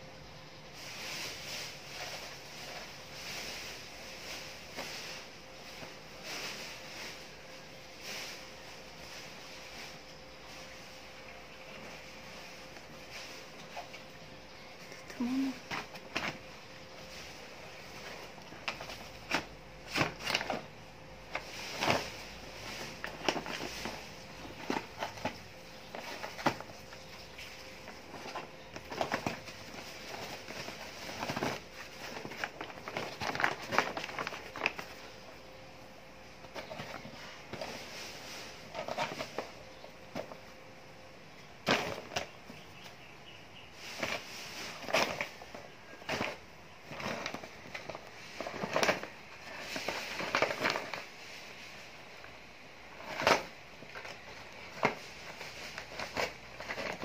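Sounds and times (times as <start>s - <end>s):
paper bag crinkling: 0.8s - 35.6s, 43.8s - 57.0s.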